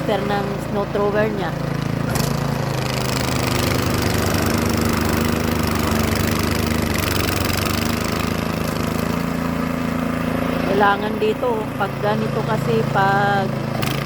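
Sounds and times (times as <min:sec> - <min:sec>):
snow thrower engine running: 0:00.0 - 0:14.0.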